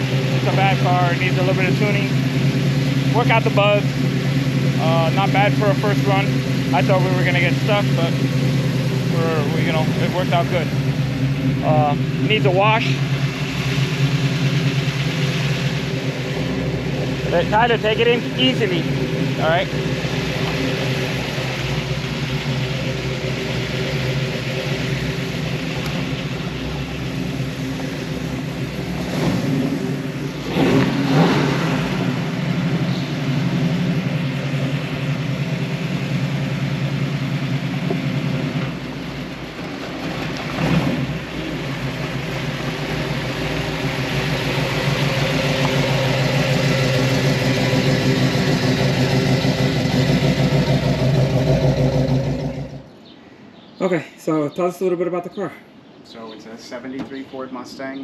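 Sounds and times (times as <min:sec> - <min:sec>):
v-eight engine idling: 0:00.0 - 0:53.2.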